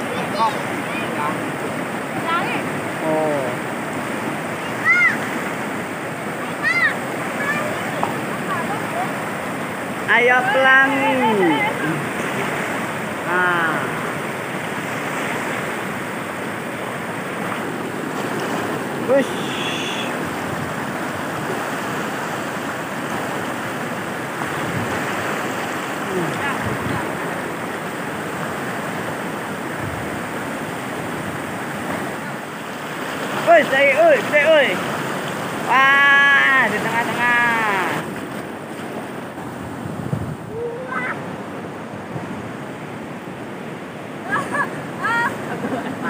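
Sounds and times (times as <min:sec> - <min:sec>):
river rushing: 0:00.0 - 0:46.0.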